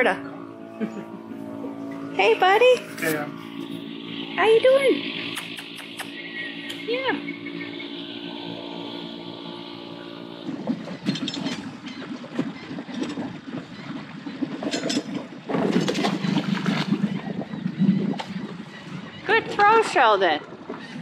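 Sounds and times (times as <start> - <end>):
water splashing and sloshing: 0.0 - 21.0
wind buffeting microphone: 0.0 - 21.0.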